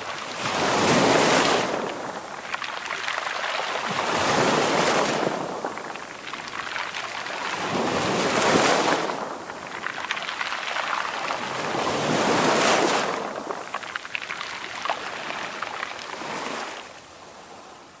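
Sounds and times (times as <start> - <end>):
sea waves breaking: 0.0 - 17.8.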